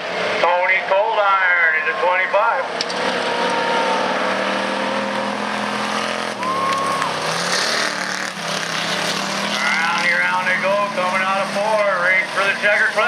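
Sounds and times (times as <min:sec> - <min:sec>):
race truck engines droning: 0:00.0 - 0:13.0.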